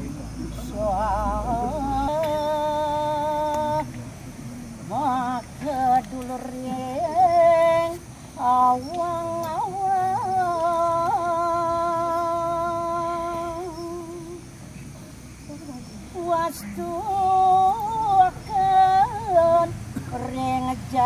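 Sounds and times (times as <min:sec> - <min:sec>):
person singing sacred chant: 0:00.0 - 0:14.5, 0:15.5 - 0:21.0.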